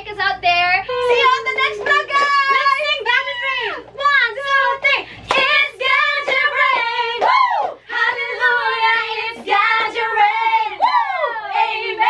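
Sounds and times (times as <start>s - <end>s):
women singing: 0.9s - 12.0s.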